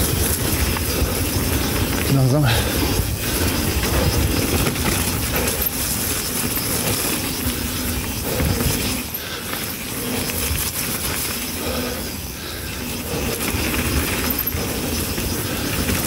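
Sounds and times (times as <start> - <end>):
bike knocks and rattles: 0.0 - 16.0
bike tyre noise: 0.0 - 16.0.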